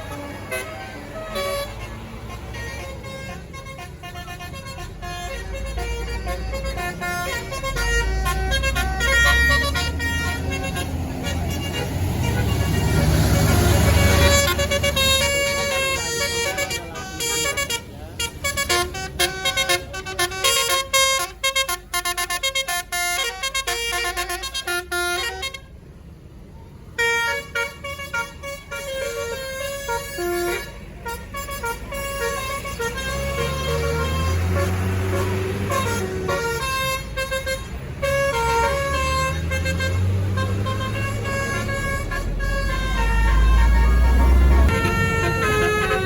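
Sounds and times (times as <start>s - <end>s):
bus musical horn playing a tune: 0.0s - 25.8s, 26.9s - 46.0s
low bus engine rumble: 0.0s - 46.0s.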